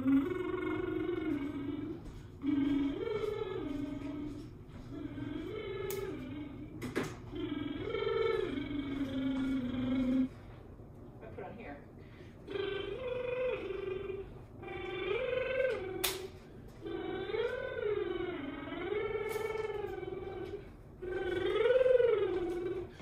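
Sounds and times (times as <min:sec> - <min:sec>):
woman singing vocal exercises: 0:00.0 - 0:10.4, 0:12.4 - 0:23.0.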